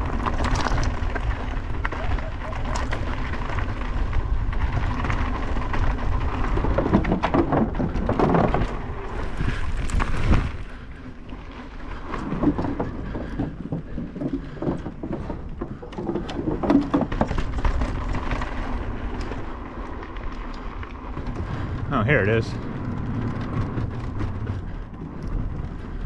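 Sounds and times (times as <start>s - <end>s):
bike clattering over bumps: 0.0s - 26.0s
tyres crunching over gravel: 0.0s - 26.0s
tyres rattling on wooden boardwalk: 0.0s - 26.0s
wind buffeting microphone: 0.0s - 26.0s.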